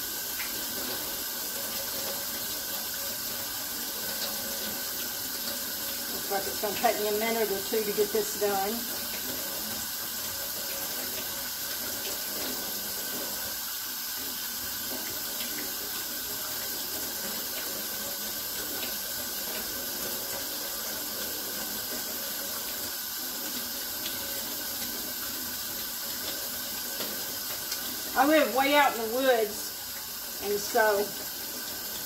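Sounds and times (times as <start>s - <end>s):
faucet running into steel sink: 0.0s - 32.0s.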